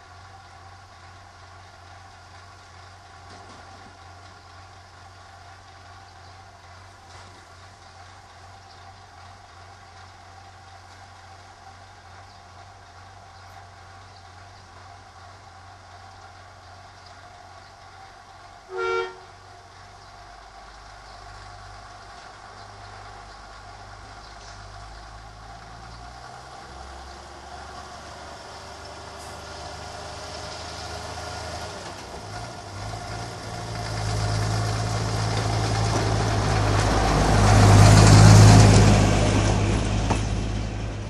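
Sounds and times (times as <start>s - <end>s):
rail motor car engine rumble: 0.0s - 41.0s.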